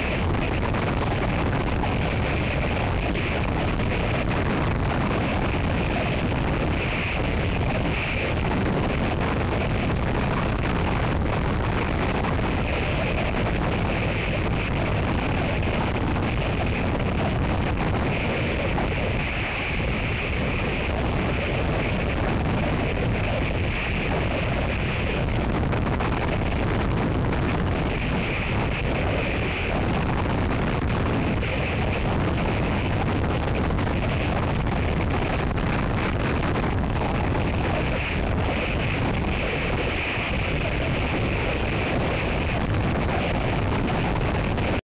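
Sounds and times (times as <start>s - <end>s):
wind on microphone: 0.0s - 44.8s.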